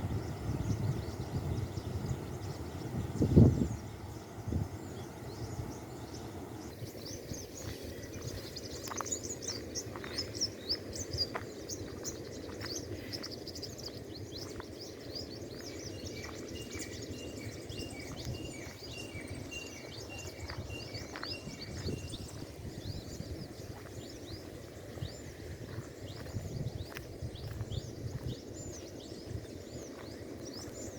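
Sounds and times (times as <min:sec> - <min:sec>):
birds chirping and calling: 0:00.0 - 0:30.9.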